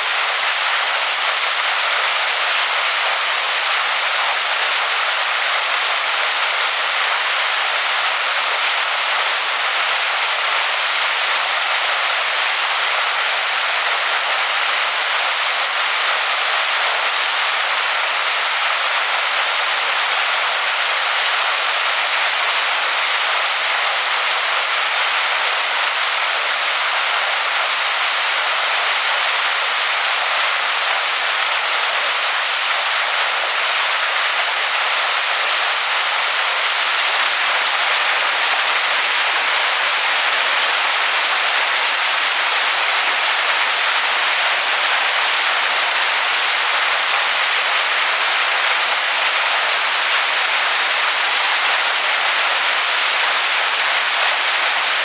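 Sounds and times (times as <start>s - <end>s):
waterfall pouring onto rocks: 0.0s - 55.0s.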